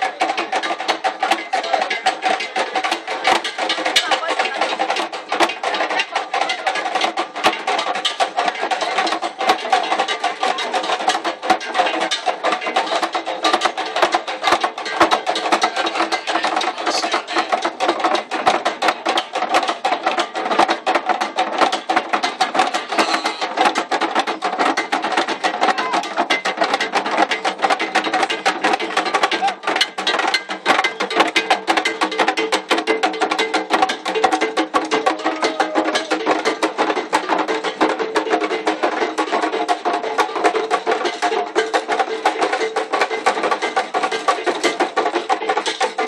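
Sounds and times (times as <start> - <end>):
drums struck with sticks: 0.0 - 46.0.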